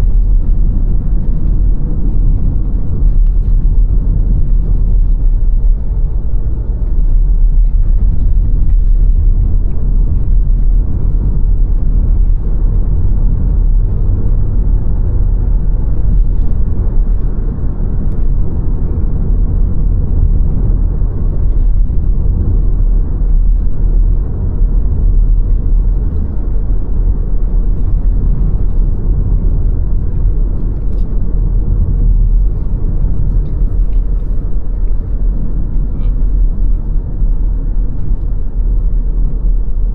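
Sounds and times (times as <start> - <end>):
car driving: 0.0 - 39.9.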